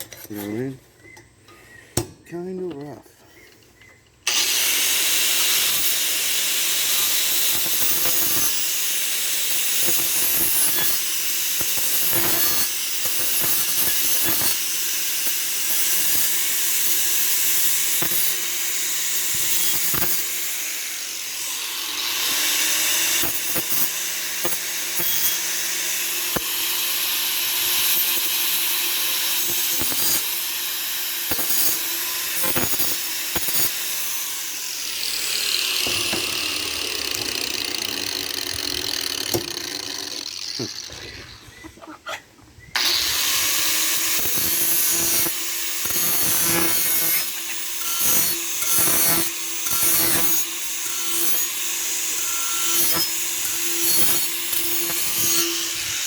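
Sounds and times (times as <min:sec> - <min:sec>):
electric grinder grinding steel: 0:04.3 - 0:41.4, 0:42.8 - 0:56.0.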